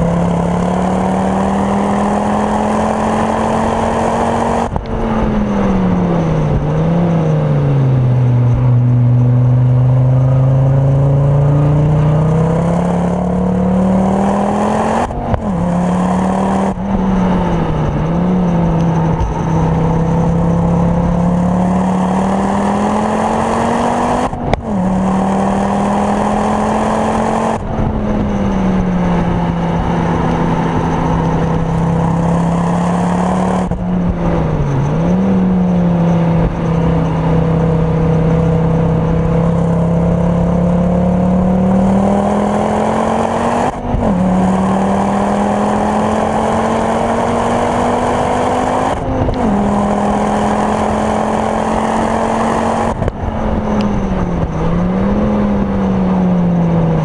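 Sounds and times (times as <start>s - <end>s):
car engine accelerating: 0.0s - 57.0s
engine blips on downshifts: 0.0s - 57.0s.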